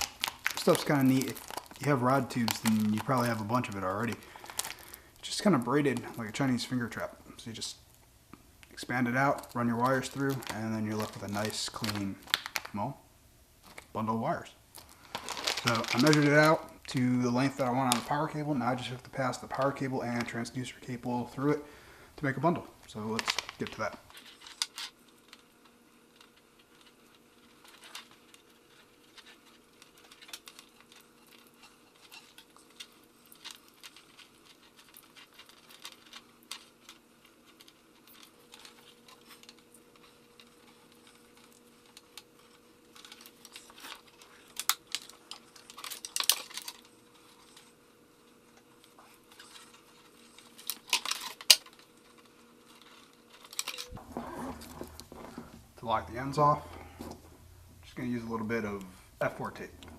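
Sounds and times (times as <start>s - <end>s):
cable clatters: 0.0s - 6.4s, 14.8s - 20.4s, 22.3s - 47.7s, 48.6s - 59.9s
cables rustling in sleeving: 0.0s - 7.9s, 8.6s - 12.9s, 13.6s - 59.9s
faint steady hum: 0.0s - 59.9s.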